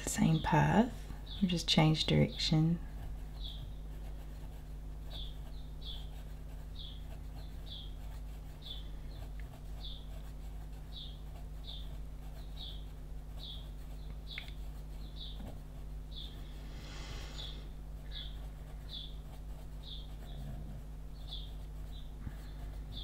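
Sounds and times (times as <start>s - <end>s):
low steady hum: 0.0s - 23.0s
pencil scratching on paper: 2.5s - 16.5s, 17.4s - 23.0s.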